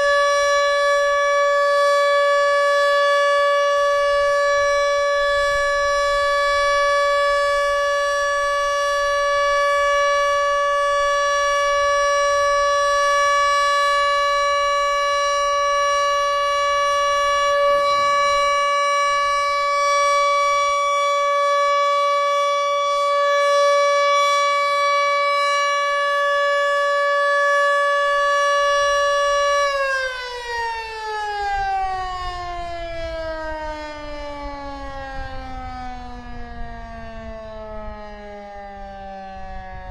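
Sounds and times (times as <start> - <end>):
warning siren winding down: 0.0 - 39.9.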